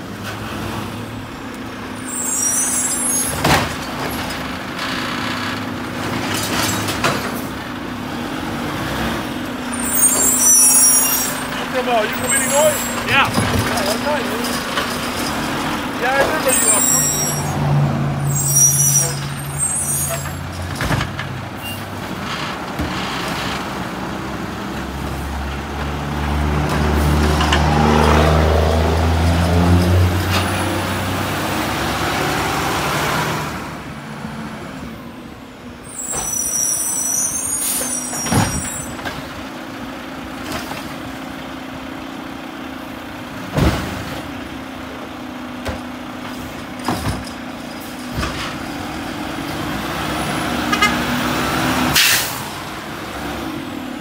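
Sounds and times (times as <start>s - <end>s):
garbage truck engine: 0.0s - 54.0s.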